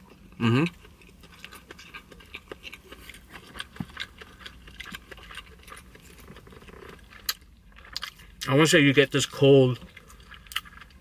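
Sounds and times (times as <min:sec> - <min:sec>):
chewing crispy food: 0:00.0 - 0:11.0.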